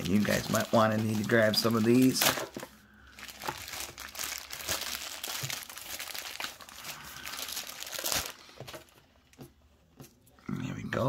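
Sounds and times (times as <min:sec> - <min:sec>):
packaging crinkling: 0:00.0 - 0:09.1.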